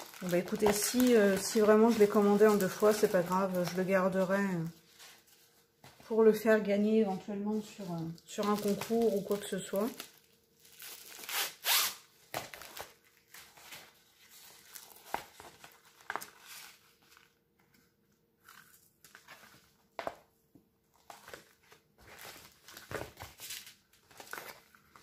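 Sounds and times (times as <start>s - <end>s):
paper and plastic film crinkling: 0.0s - 19.8s, 20.9s - 25.0s.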